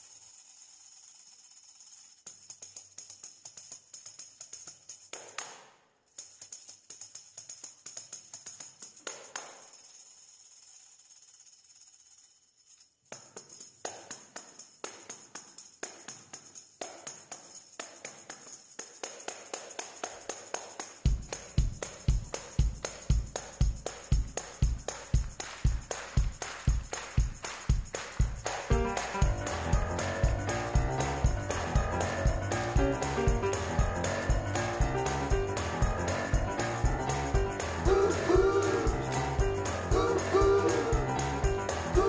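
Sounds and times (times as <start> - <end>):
tambourine jingles: 0.0 - 42.0.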